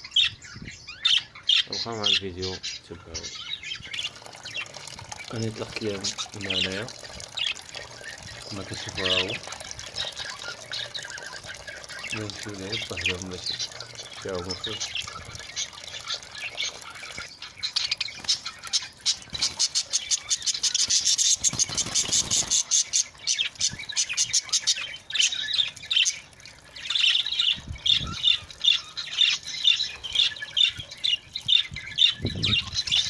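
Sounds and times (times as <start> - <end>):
budgerigars chattering and squawking: 0.0 - 33.0.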